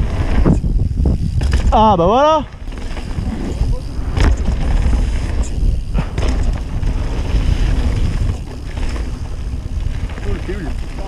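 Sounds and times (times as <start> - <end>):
bike knocking and rattling: 0.0 - 11.0
bike tyres on dirt: 0.0 - 11.0
wind on microphone: 0.0 - 11.0.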